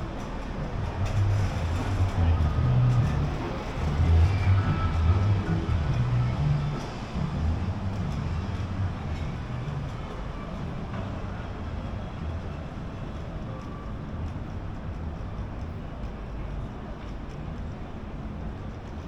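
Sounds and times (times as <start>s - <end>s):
road traffic rumble: 0.0s - 19.0s
urban hum: 0.0s - 19.0s.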